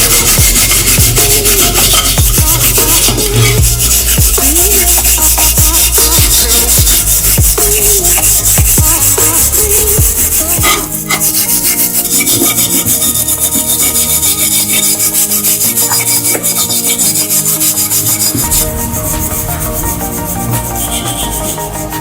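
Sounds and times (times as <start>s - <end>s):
abrasive rubbing on metal: 0.0s - 22.0s
background music: 0.0s - 22.0s.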